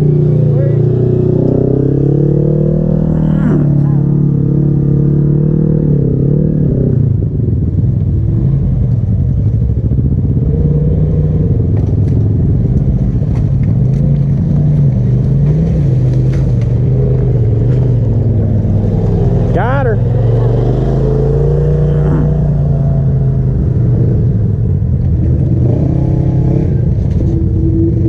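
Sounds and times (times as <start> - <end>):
utility vehicle engine running: 0.0 - 28.0.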